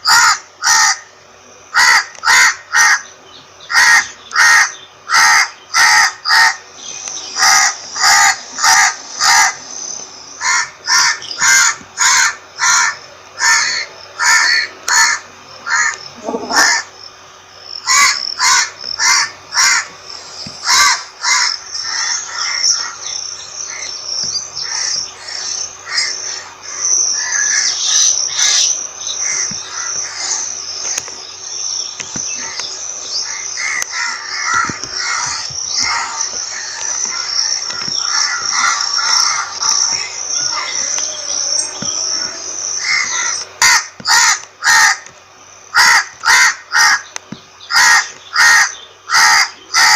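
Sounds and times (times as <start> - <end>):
crows cawing: 0.0 - 16.9, 17.8 - 31.1, 32.0 - 49.9.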